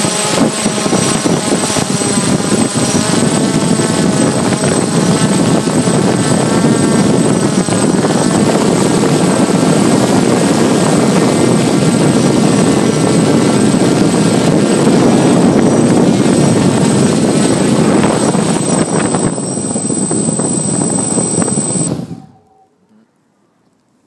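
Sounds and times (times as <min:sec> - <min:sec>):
drone motors and propellers whining: 0:00.0 - 0:22.8.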